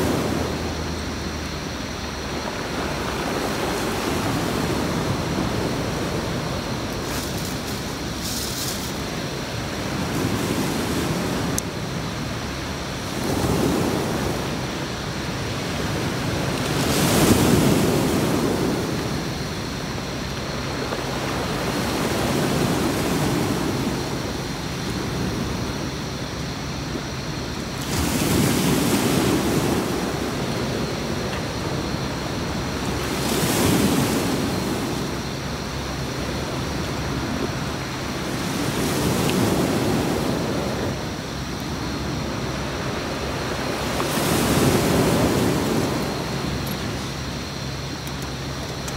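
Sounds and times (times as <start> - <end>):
sea waves breaking on beach: 0.0 - 48.9.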